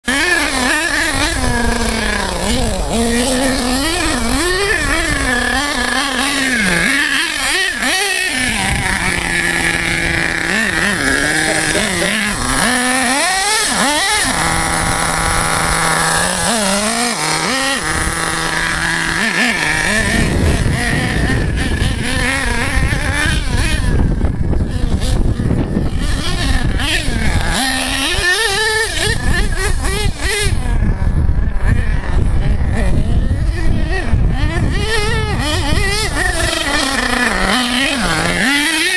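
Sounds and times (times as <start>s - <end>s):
rc car nitro engine revving: 0.0s - 38.9s.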